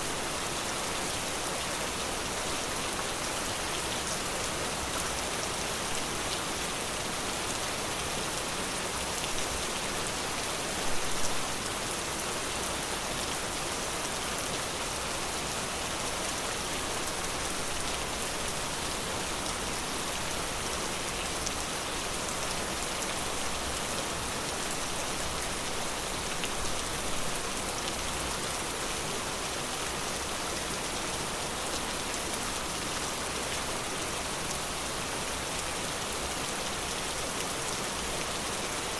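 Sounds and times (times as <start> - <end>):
rain falling in forest: 0.0 - 38.9.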